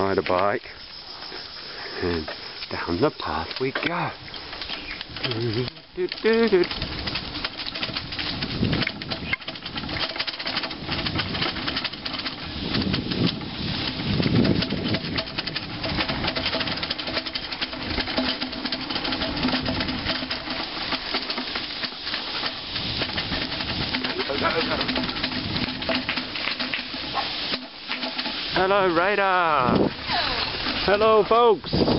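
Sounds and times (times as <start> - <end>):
bicycle clattering over concrete: 0.0 - 31.9.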